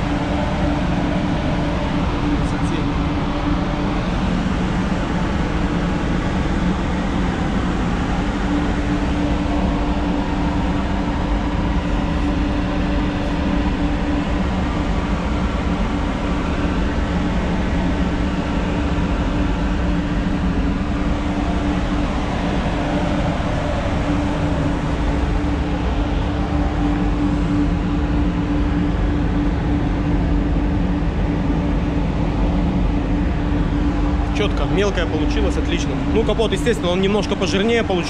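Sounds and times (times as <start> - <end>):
low hum: 0.0 - 38.0
ventilation fans rumbling: 0.0 - 38.0.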